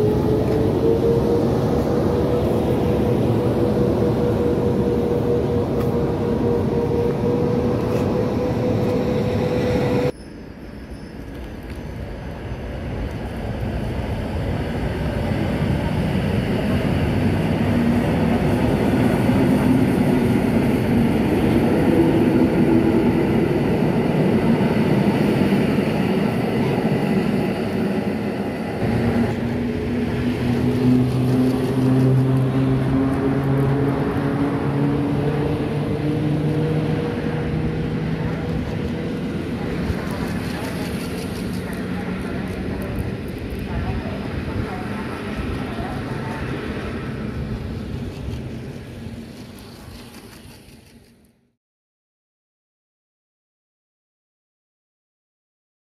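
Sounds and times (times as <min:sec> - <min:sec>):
train running whine and rumble: 0:00.0 - 0:51.0.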